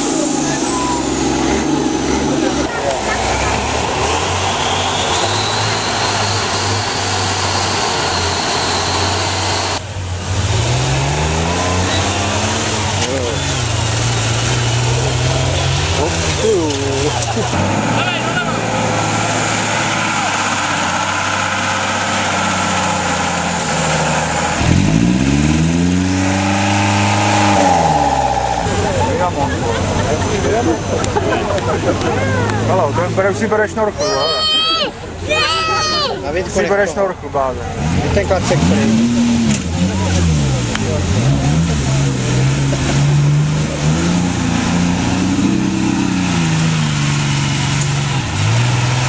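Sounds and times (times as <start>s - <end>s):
diesel engine revving: 0.0s - 49.0s.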